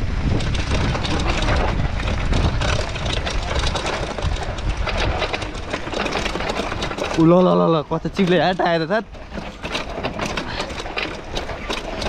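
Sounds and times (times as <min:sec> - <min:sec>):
bike clattering over rough ground: 0:00.0 - 0:12.0
low rumble: 0:00.0 - 0:12.0
tyre noise: 0:00.0 - 0:12.0.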